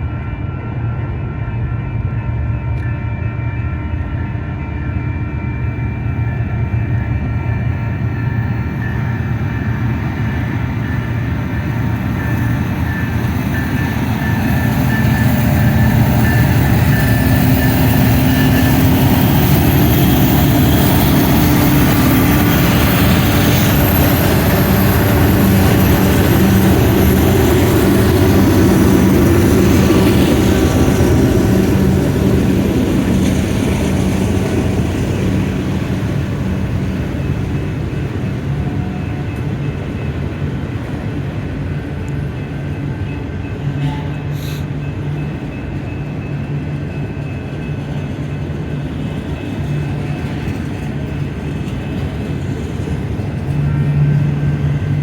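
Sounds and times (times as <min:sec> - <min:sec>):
diesel locomotives running past: 0:00.0 - 0:55.0.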